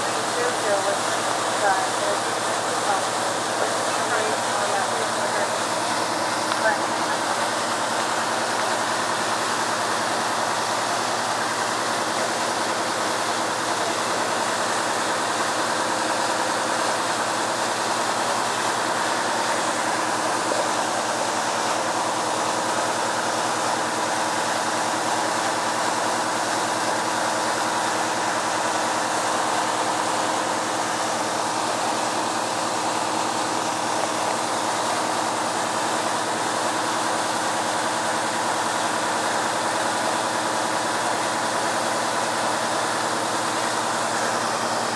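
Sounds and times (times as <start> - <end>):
water gushing from hydrant: 0.0 - 44.9.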